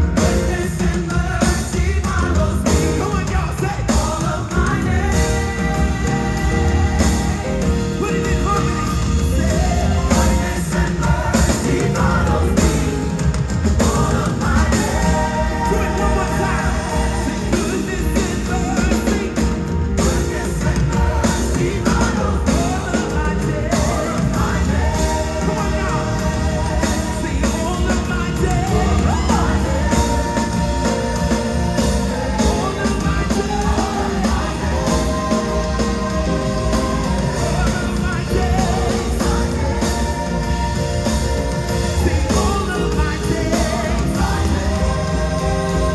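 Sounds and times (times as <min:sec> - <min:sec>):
band with drums and bass: 0:00.0 - 0:45.9
choir singing gospel: 0:00.0 - 0:45.9.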